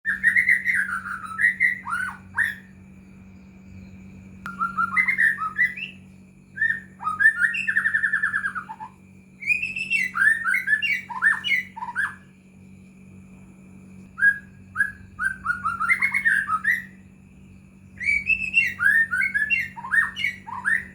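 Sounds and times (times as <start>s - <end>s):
bird singing whistled notes: 0.1s - 2.9s, 3.8s - 12.5s, 14.0s - 20.9s
faint steady hum: 0.1s - 20.9s.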